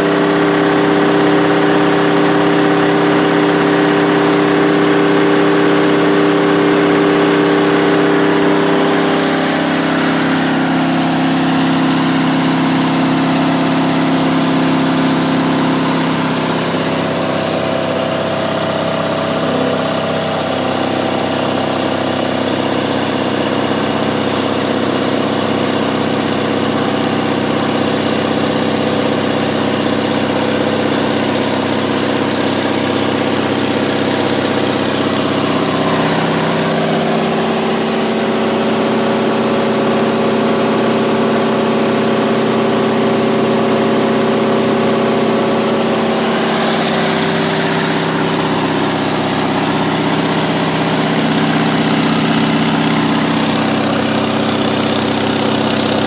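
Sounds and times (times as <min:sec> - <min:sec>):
diesel generator running: 0:00.0 - 0:56.0.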